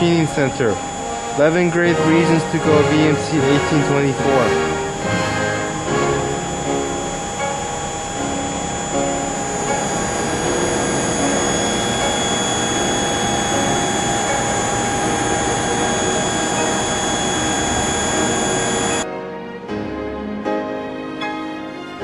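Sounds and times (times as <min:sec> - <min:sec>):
machining hiss: 0:00.0 - 0:19.0
machine high whine: 0:00.0 - 0:19.1.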